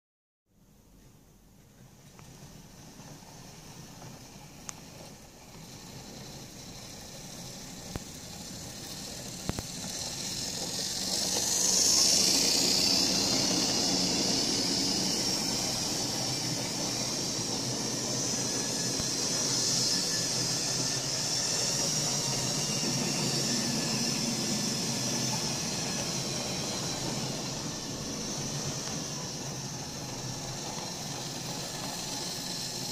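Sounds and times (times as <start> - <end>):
wheels running on rails: 1.7 - 32.9
model train motor whirring: 2.2 - 32.9.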